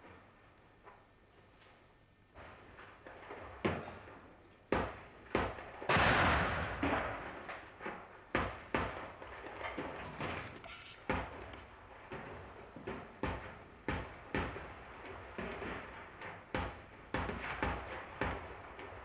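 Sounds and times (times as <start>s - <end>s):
explosions with echoing tails: 2.4s - 19.0s
gunfire: 2.4s - 19.0s.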